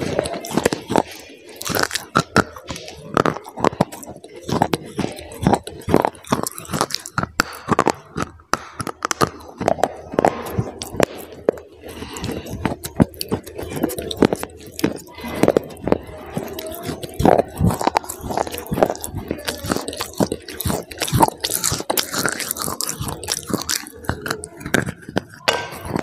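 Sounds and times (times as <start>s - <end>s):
crunchy sticks being chewed: 0.0s - 26.0s.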